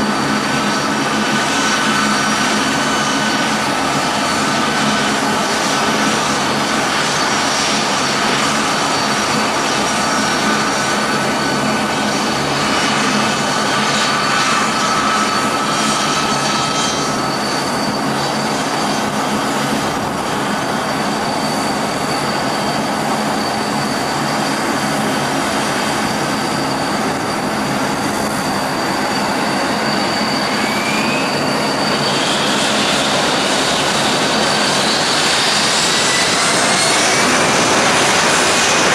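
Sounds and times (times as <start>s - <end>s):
jet engine rumble: 0.0s - 38.9s
jet engine whine: 0.0s - 38.9s.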